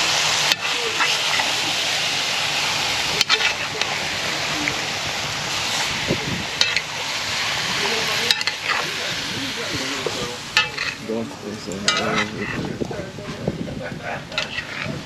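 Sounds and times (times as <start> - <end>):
meat sizzling in hot oil: 0.0 - 13.0, 14.0 - 15.0.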